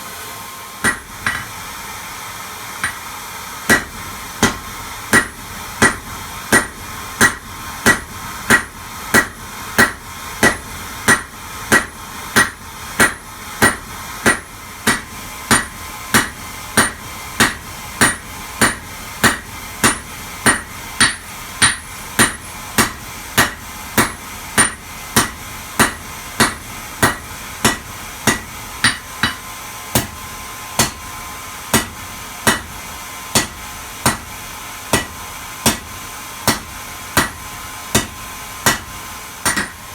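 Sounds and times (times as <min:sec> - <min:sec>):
hammer striking metal on anvil: 0:00.8 - 0:01.6, 0:02.8 - 0:03.1, 0:03.7 - 0:30.2, 0:30.8 - 0:31.1, 0:31.7 - 0:39.9.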